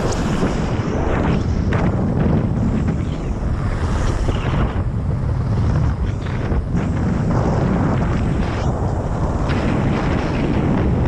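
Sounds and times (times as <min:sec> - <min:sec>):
helicopter rumble: 0:00.0 - 0:11.0
wind buffeting microphone: 0:00.0 - 0:11.0.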